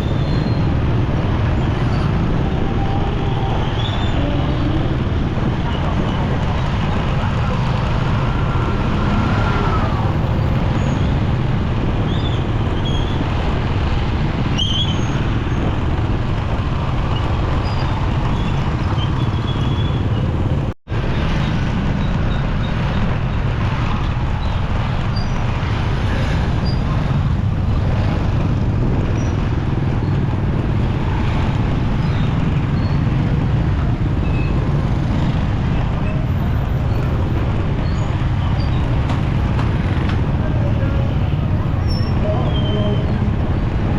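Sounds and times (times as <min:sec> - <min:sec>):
city traffic: 0:00.0 - 0:43.9
motorcycle engine riding: 0:00.0 - 0:43.9.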